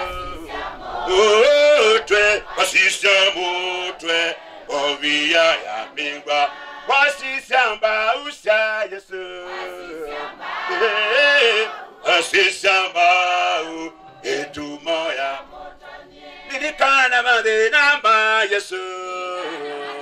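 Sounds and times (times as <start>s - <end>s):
voices singing along: 0.0s - 20.0s
man singing into a microphone: 1.1s - 10.1s, 10.7s - 15.5s, 16.5s - 20.0s.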